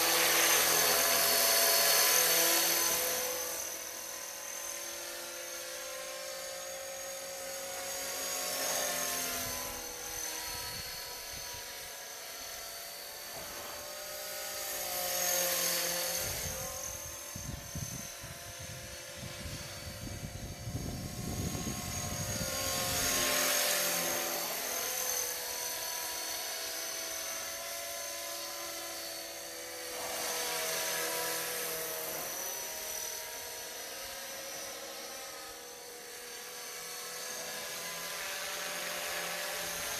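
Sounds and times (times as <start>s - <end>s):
model helicopter whine flying past: 0.0s - 39.9s.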